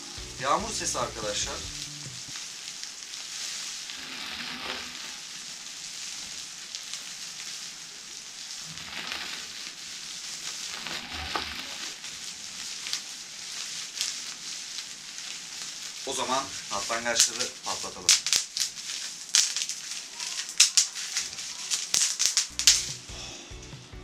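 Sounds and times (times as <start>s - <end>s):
bubble wrap crinkling: 0.0s - 23.1s.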